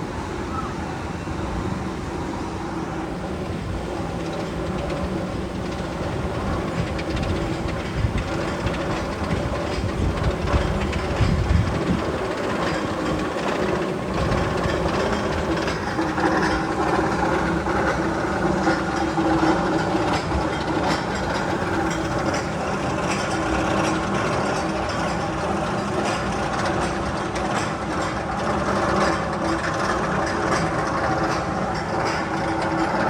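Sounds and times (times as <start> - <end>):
constant low hum: 0.0 - 33.0
mechanical rattling and clatter: 3.4 - 33.0.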